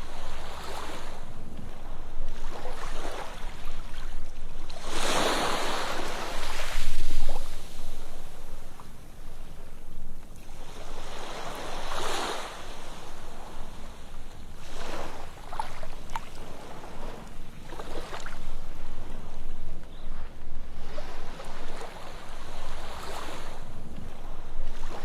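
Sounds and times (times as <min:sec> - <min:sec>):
sea waves breaking: 0:00.0 - 0:25.0
receding water crackles: 0:00.3 - 0:25.0.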